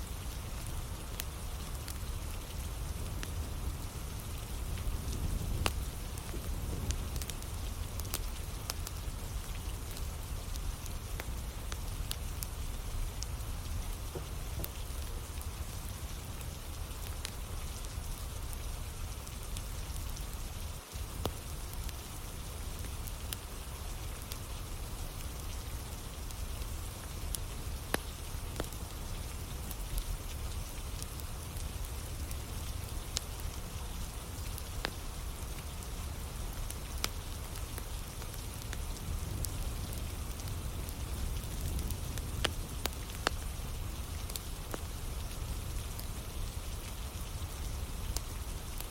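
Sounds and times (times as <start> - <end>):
campfire crackling: 0.0 - 48.9
steady rain falling: 0.0 - 48.9.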